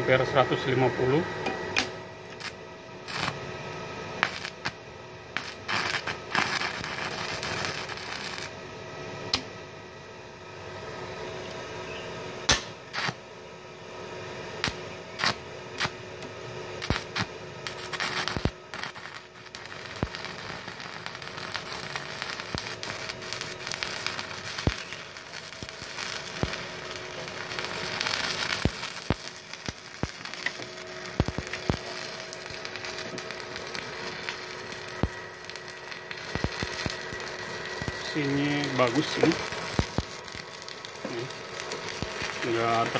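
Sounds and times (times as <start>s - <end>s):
faint steady hum: 0.0s - 42.9s
welding arc crackling and popping: 1.7s - 8.7s, 12.4s - 13.2s, 14.6s - 42.9s.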